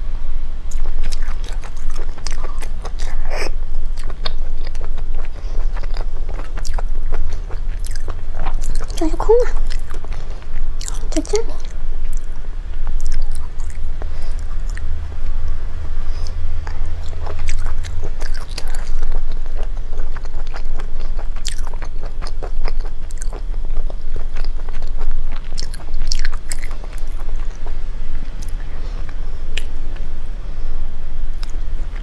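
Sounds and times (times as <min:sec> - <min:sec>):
close-miked chewing and biting: 0:00.7 - 0:14.9, 0:16.0 - 0:30.1.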